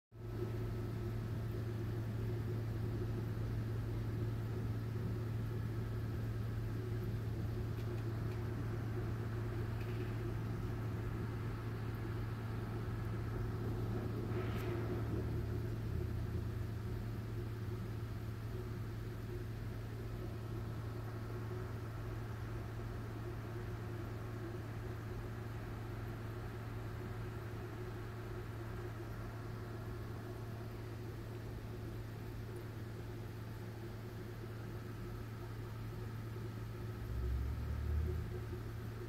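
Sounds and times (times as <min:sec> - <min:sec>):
aquarium air pump hum: 0:00.2 - 0:39.0
faint hiss: 0:00.2 - 0:39.0.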